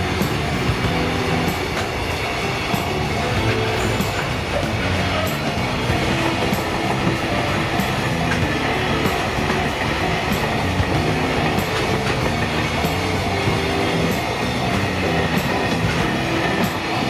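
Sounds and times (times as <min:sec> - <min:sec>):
level-crossing alarm ringing: 0:00.0 - 0:17.0
train wheels clattering over rail joints: 0:00.0 - 0:17.0.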